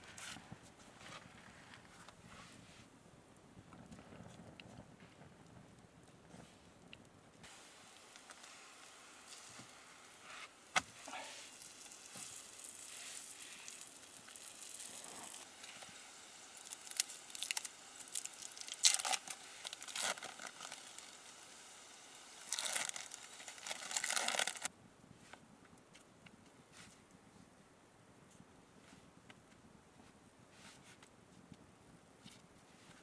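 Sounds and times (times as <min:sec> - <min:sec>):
crackles and rustles of cooking: 0:00.0 - 0:27.5.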